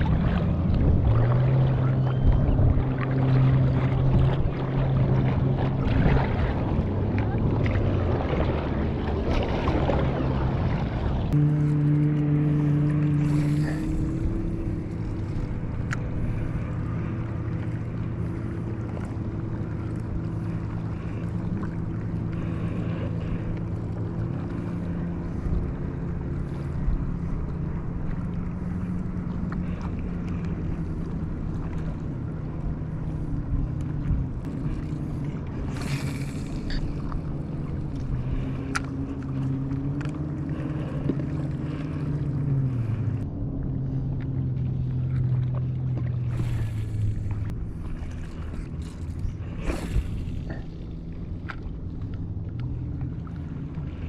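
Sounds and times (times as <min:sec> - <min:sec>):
boat engine droning: 0:00.0 - 0:54.0
water noise: 0:00.0 - 0:54.0
wind: 0:00.0 - 0:54.0.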